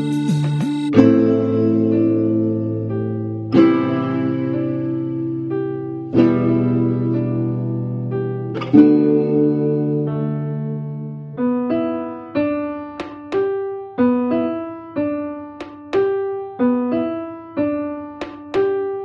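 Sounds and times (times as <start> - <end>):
held keyboard chord: 0.0 - 19.0
keyboard melody: 0.0 - 19.0.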